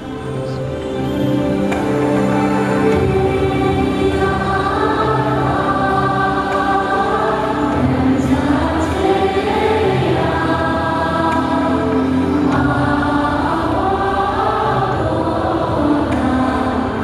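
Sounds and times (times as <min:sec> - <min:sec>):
backing music: 0:00.0 - 0:17.0
choir singing slow melody: 0:00.0 - 0:17.0.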